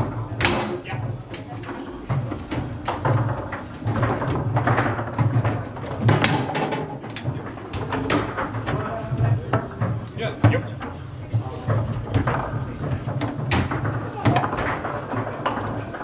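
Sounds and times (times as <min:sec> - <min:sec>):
foosball ball knocks and clacks: 0:00.0 - 0:16.0
foosball rods rattling: 0:00.0 - 0:16.0.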